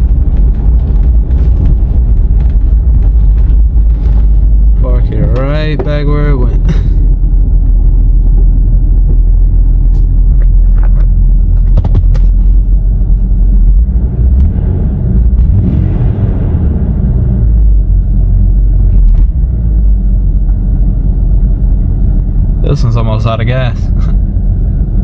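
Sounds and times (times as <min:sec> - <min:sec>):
loud engine rumbling: 0:00.0 - 0:25.0.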